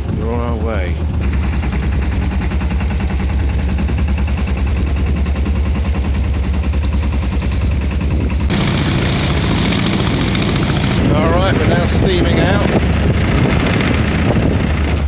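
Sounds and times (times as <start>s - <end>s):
boat engine thudding: 0.0s - 15.0s.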